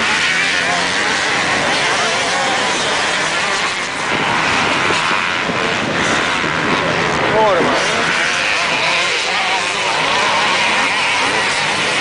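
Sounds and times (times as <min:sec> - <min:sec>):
motorcycles revving: 0:00.0 - 0:12.0.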